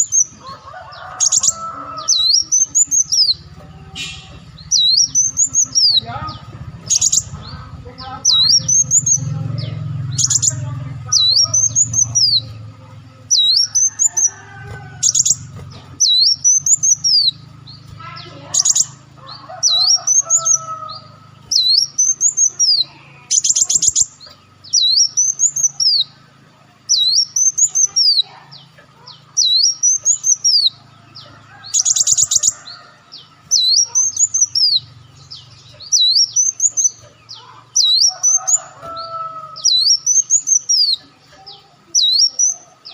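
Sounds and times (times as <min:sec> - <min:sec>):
bird whistled song: 0:00.0 - 0:06.1, 0:06.8 - 0:12.6, 0:13.3 - 0:26.2, 0:26.8 - 0:42.9
bird rapid trill: 0:00.0 - 0:42.9.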